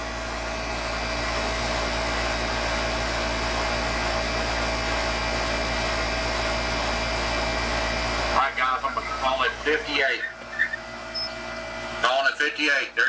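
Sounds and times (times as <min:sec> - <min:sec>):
air conditioner unit humming: 0:00.0 - 0:13.0.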